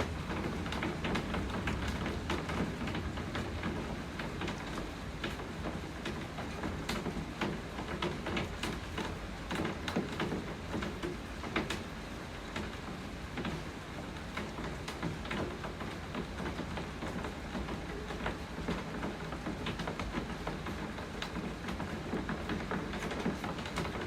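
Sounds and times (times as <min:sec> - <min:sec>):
raindrops tapping on surface: 0:00.0 - 0:24.0.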